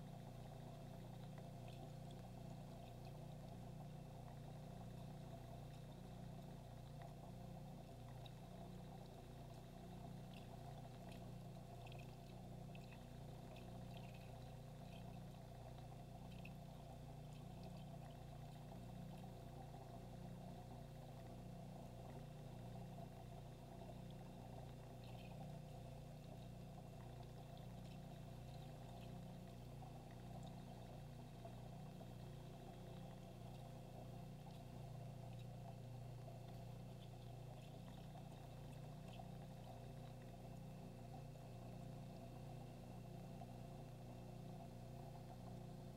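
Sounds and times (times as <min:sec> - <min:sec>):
aquarium filter pump hum: 0:00.0 - 0:45.9
water trickling and gurgling: 0:00.0 - 0:45.9.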